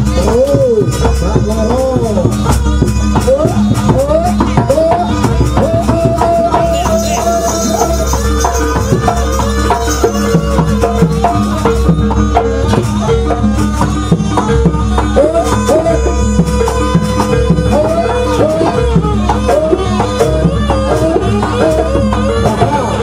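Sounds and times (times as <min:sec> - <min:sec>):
drums and percussion: 0:00.0 - 0:23.0
gliding melodic lead line: 0:00.0 - 0:23.0.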